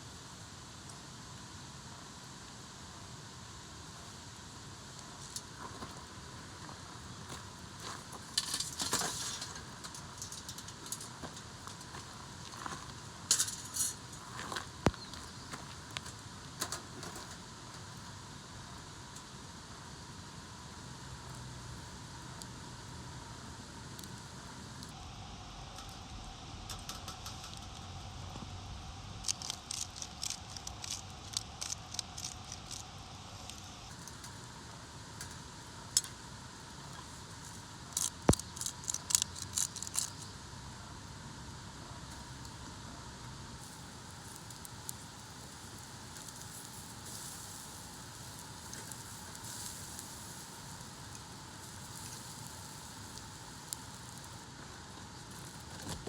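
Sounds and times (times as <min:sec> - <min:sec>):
campfire crackling: 0:00.2 - 0:56.0.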